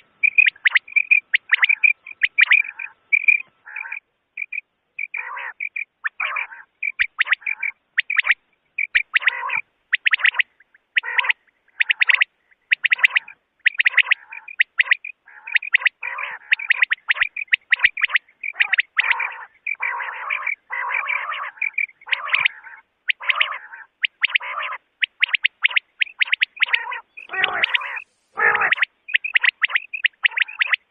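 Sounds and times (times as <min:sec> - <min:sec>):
quail calling: 0:00.0 - 0:30.9.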